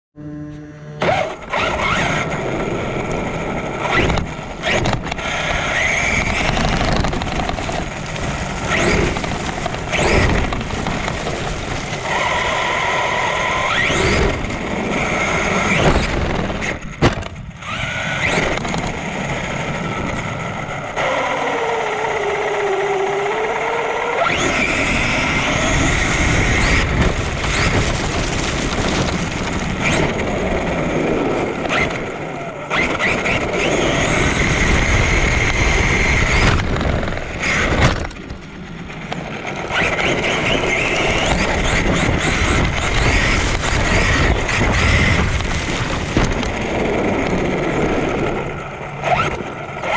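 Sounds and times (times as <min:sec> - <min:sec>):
electric motor whine: 0:00.2 - 0:49.9
tyre and wind noise: 0:01.0 - 0:49.9.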